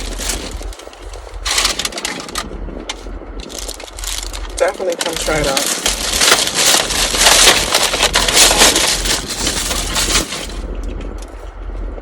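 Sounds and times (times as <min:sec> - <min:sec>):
crackling crunching rustle: 0:00.0 - 0:11.9
faint scattered crackle: 0:00.0 - 0:11.9.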